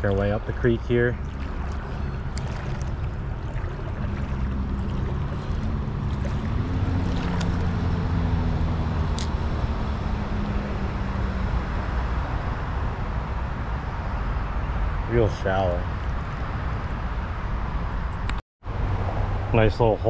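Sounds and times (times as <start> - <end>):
passing vehicle engine drone: 0.0 - 16.8
highway traffic rumble: 0.0 - 20.0.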